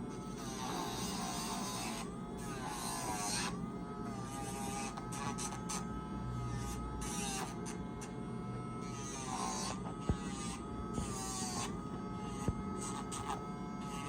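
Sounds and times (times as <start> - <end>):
electric nail grinder whining: 0.0 - 14.0.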